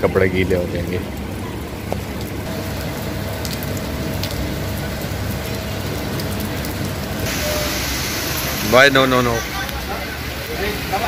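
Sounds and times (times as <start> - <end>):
heavy rain on water and paving: 0.0 - 11.0.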